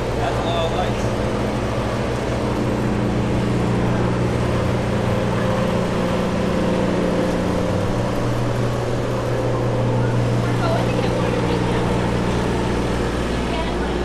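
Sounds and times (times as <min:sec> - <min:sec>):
low mechanical hum: 0:00.0 - 0:14.0
outdoor noise: 0:00.0 - 0:14.0.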